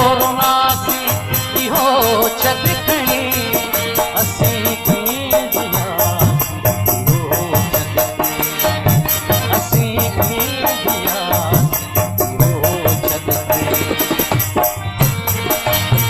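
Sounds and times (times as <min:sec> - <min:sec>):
hand drum beat: 0:00.0 - 0:16.0
high rattling percussion: 0:00.0 - 0:16.0.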